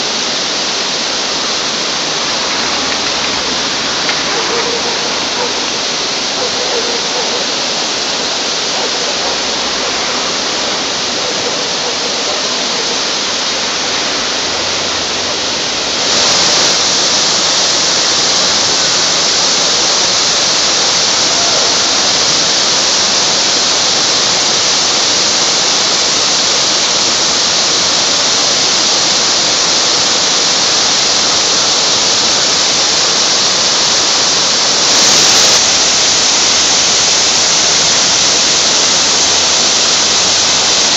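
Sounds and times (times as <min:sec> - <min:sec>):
fountain water rushing: 0:00.0 - 0:40.9.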